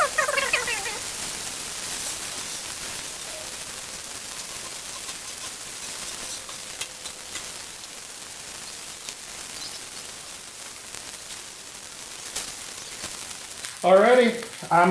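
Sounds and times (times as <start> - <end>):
fish sizzling on griddle: 0.0 - 14.9.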